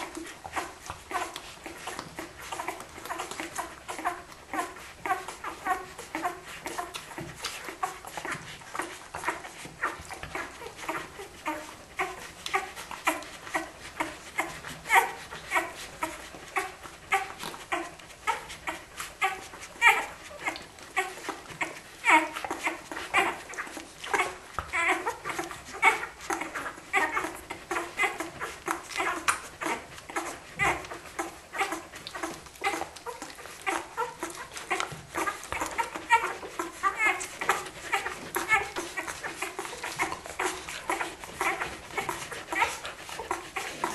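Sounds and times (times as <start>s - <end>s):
puppies squeaking and whimpering: 0.0s - 43.9s.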